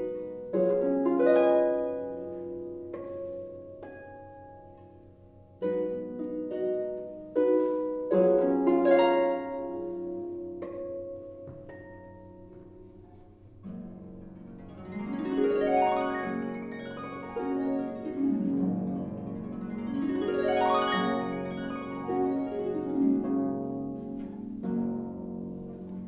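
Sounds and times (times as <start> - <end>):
harp playing: 0.0 - 26.0.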